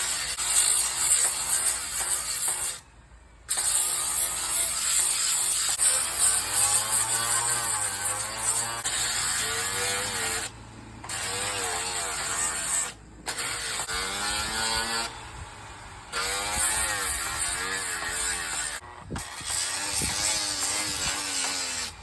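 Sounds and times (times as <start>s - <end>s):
electric sander on plastic: 3.5s - 22.0s.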